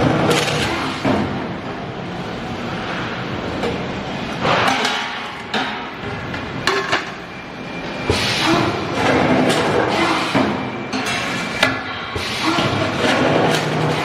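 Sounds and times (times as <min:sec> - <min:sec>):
machine running: 0:00.0 - 0:14.0.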